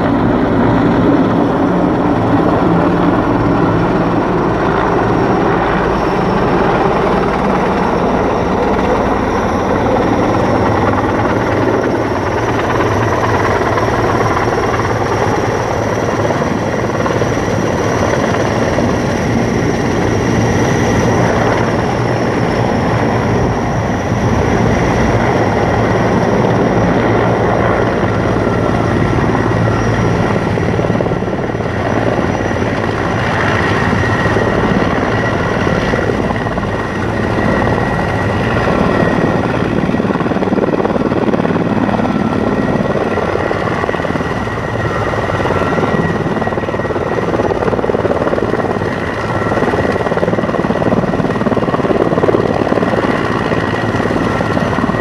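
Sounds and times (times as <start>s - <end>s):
helicopter rotor noise: 0.0s - 55.0s
high turbine whine: 0.0s - 55.0s.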